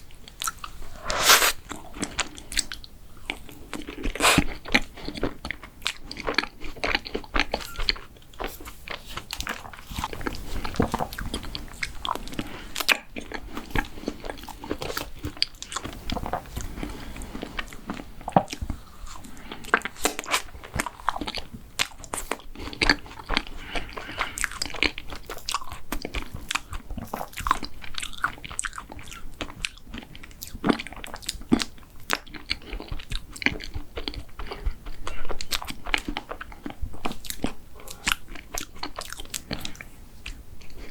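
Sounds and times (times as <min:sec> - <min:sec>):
person crunching and chewing: 0:00.2 - 0:40.9.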